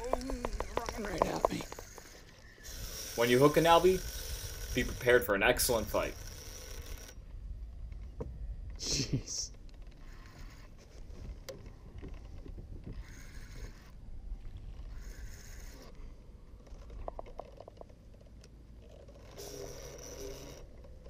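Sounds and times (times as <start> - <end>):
wind rumbling on microphone: 0.0 - 17.9.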